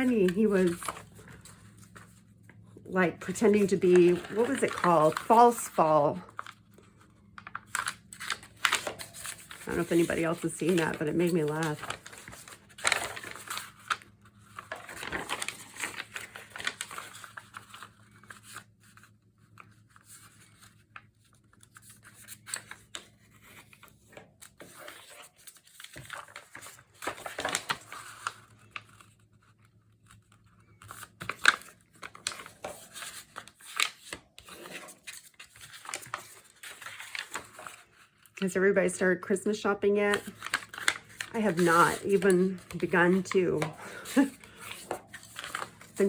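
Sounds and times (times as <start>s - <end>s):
stiff paper rustling and crinkling: 0.0s - 38.5s, 39.3s - 46.0s.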